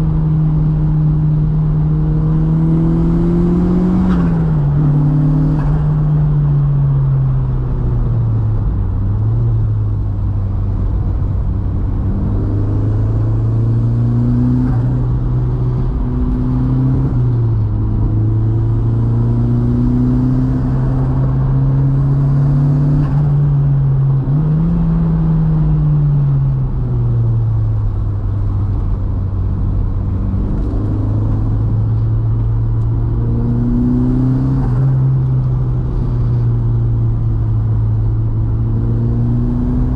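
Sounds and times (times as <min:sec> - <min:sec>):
car engine revving: 0:00.0 - 0:06.7, 0:09.6 - 0:39.9.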